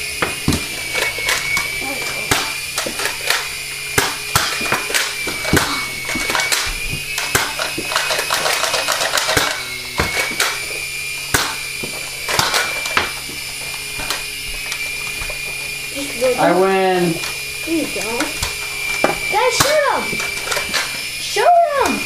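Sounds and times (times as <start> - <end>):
electric motors whining: 0.0 - 22.0
toy blasters clicking and clacking: 0.3 - 22.0.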